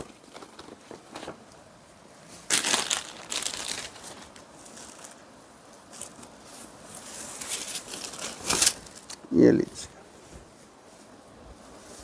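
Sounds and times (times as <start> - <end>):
fabric rustling and crinkling: 0.0 - 12.0.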